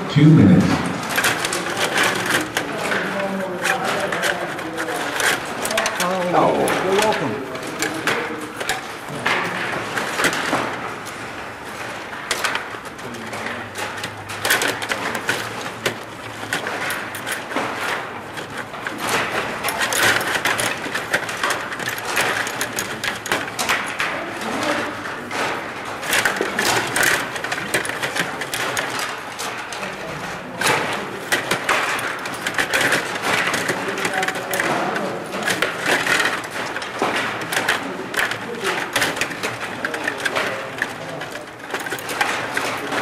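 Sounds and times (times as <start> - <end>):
plastic clicks and knocks: 0.0 - 43.0.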